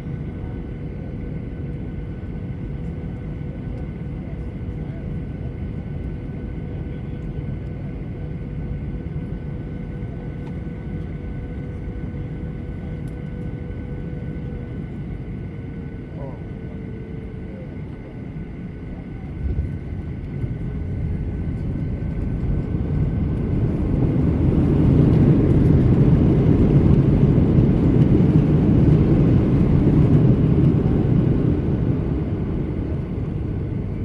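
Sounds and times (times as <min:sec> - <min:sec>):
airplane landing rumble: 0:00.0 - 0:34.0.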